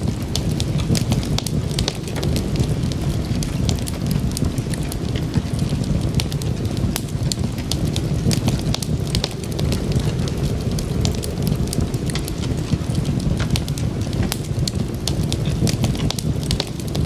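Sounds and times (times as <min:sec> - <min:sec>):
low rumble of burning: 0:00.0 - 0:17.0
sharp pops and snaps: 0:00.0 - 0:17.0
wood fire crackling: 0:00.0 - 0:17.0.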